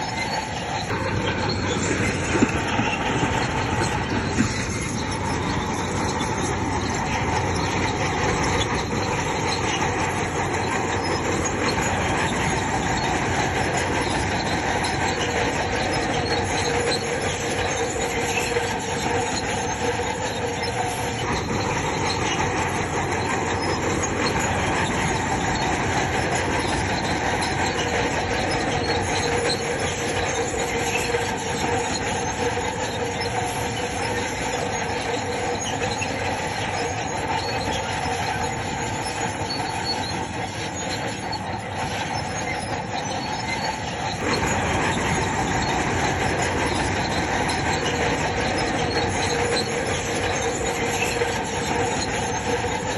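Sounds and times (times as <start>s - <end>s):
bulldozer engine: 0.0s - 52.9s
bulldozer tracks squealing: 0.0s - 52.9s.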